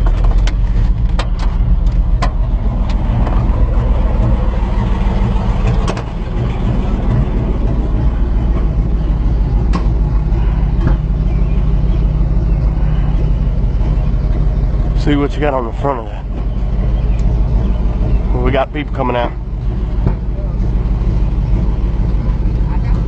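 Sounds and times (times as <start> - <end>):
truck engine exhaust rumble: 0.0 - 23.0.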